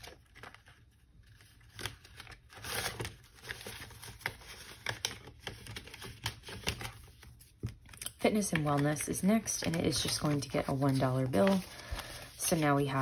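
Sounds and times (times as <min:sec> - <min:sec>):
paper bills rustling: 0:00.0 - 0:13.0.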